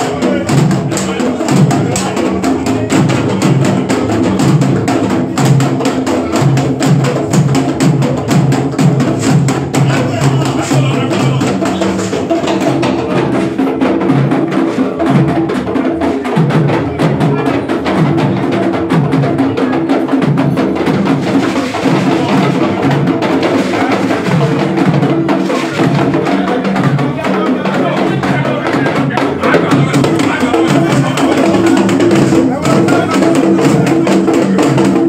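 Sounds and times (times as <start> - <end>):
drum and percussion music: 0.0 - 35.0.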